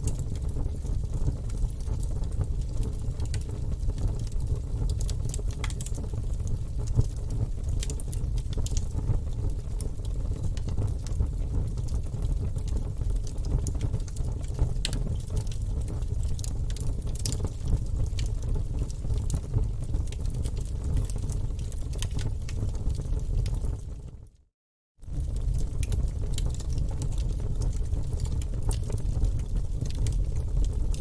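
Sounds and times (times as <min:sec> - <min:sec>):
fire flames rumbling: 0:00.0 - 0:24.1, 0:25.0 - 0:31.0
logs crackling and popping: 0:00.1 - 0:23.8, 0:25.1 - 0:31.0.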